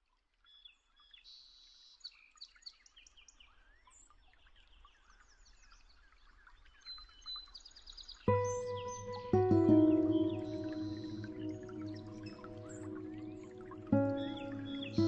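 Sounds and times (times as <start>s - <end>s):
small birds chirping: 0.4s - 15.0s.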